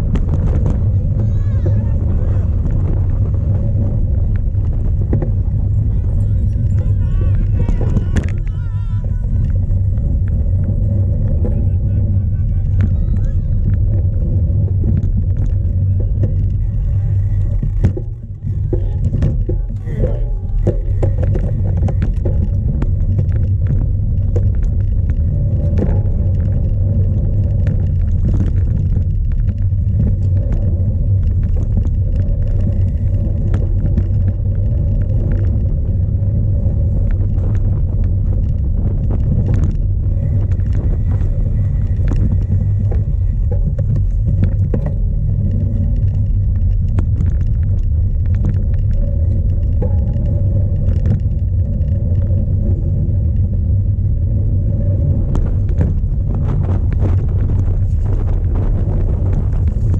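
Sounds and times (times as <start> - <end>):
bike clicks and knocks: 0.0 - 59.9
heavy wind rumble on camera: 0.0 - 59.9.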